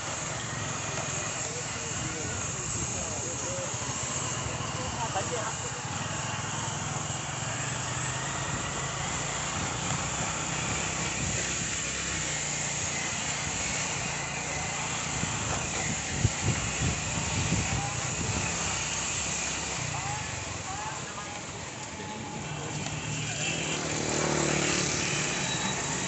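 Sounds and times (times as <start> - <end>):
motorcycle engine running: 0.0 - 26.0
wind and road noise: 0.0 - 26.0.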